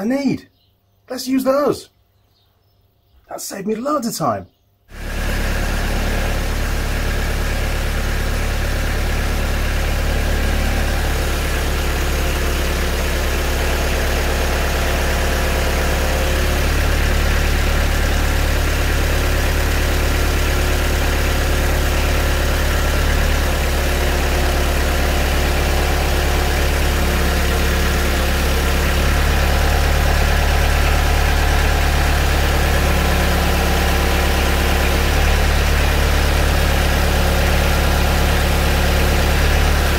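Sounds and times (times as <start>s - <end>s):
loader engine running: 4.9s - 39.9s.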